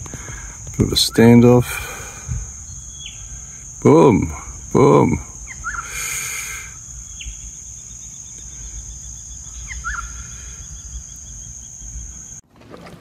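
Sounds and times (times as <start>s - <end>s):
fast-pulsing insect chirr: 0.0s - 12.4s
high-pitched insect drone: 0.0s - 12.4s
swooping bird calls: 0.0s - 12.4s.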